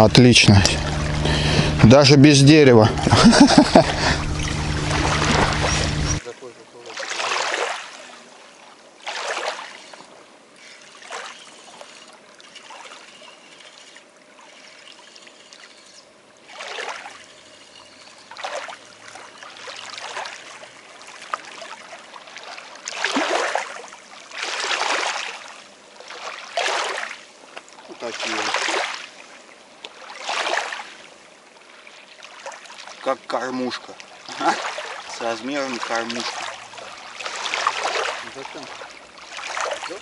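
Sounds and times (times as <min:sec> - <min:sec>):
water splashing and trickling: 0:00.0 - 0:40.0.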